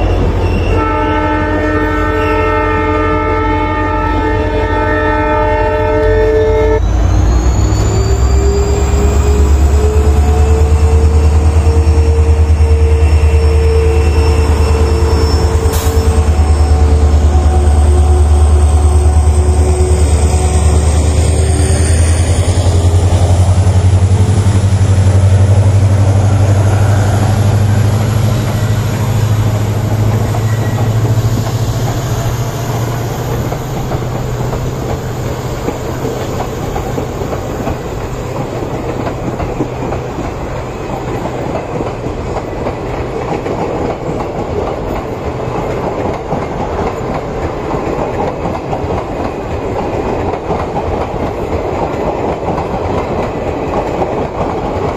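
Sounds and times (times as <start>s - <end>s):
locomotive engine droning: 0.0s - 51.6s
train wheels clattering: 7.0s - 54.9s.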